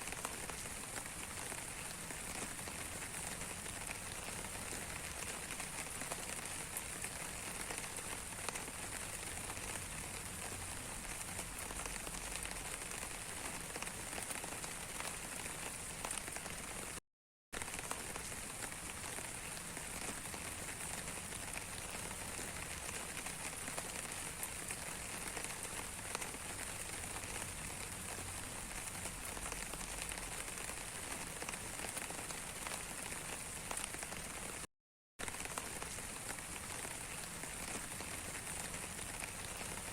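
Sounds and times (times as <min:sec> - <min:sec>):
rain falling steadily: 0:00.0 - 0:17.0, 0:17.6 - 0:39.9.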